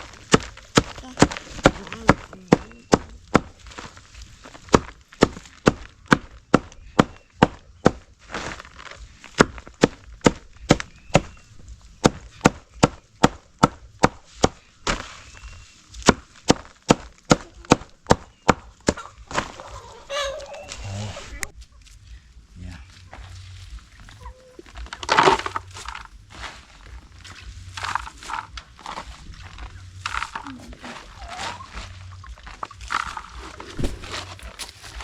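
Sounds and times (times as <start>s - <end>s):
blade chopping leaves on wood: 0.0s - 19.7s, 24.8s - 35.0s.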